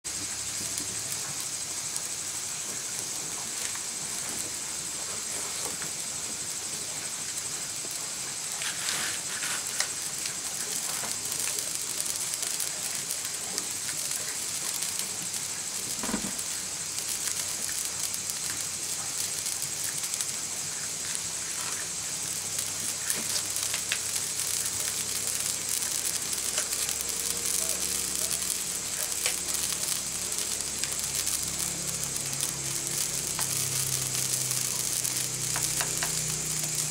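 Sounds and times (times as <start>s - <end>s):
fire crackles and pops: 0.0s - 36.9s
vegetables sizzling in a pan: 0.0s - 36.9s.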